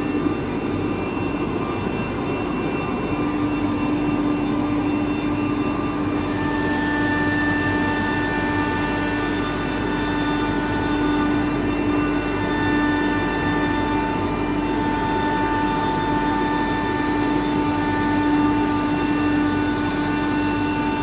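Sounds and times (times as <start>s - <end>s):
router machine humming: 0.0s - 21.0s.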